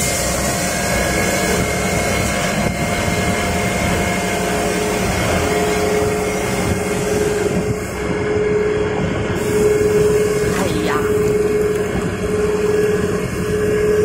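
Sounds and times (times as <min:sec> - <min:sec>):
constant whine: 0:00.0 - 0:14.0
grinder mechanical drone: 0:00.0 - 0:14.0.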